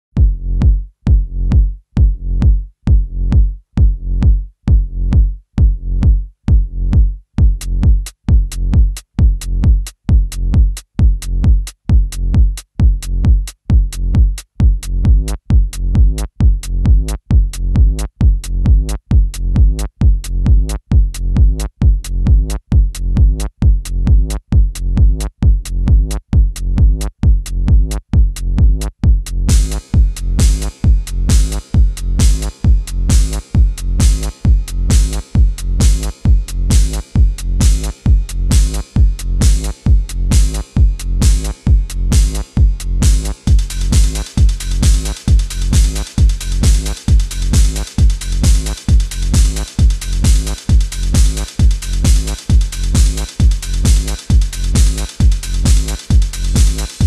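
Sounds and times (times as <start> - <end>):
drum machine kick drum: 0.1 - 57.0.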